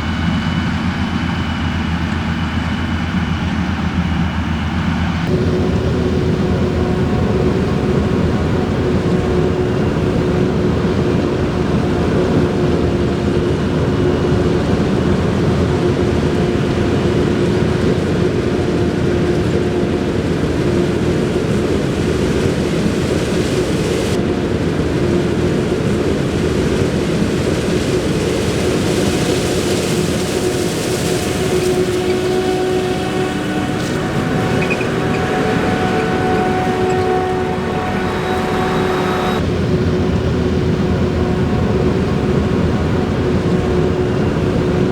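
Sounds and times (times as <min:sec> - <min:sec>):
diesel machinery rumble: 0:00.0 - 0:44.9
machinery whine: 0:00.0 - 0:44.9.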